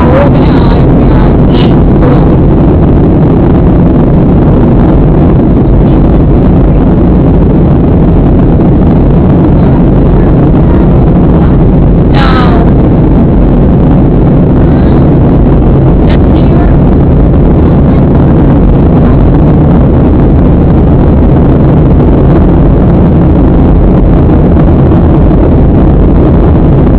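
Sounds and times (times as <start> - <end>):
airplane cabin drone: 0.0 - 26.9.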